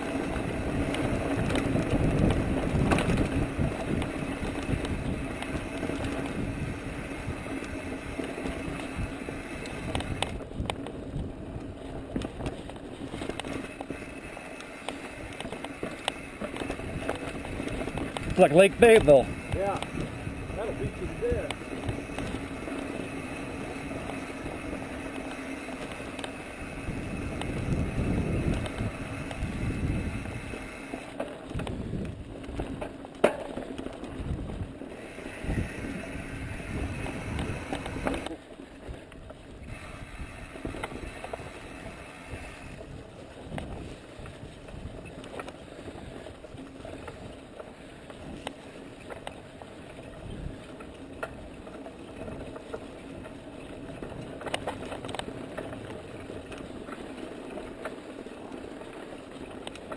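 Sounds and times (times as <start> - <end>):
bike rattling over bumps: 0.0 - 59.9
bike tyres on dirt and gravel: 0.0 - 59.9
wind rumbling on microphone: 0.0 - 59.9.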